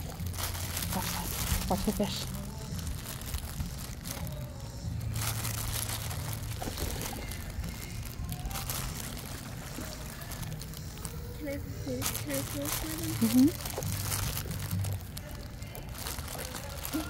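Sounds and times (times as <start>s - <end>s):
water splashing and sloshing: 0.0s - 4.3s, 5.0s - 17.0s.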